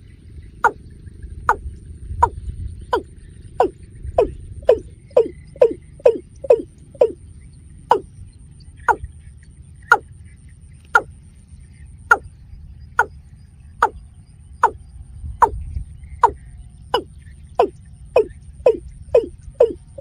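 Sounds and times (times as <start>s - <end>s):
bird calling: 0.0s - 20.0s
faint high whine: 0.0s - 20.0s
low rumble: 0.0s - 20.0s.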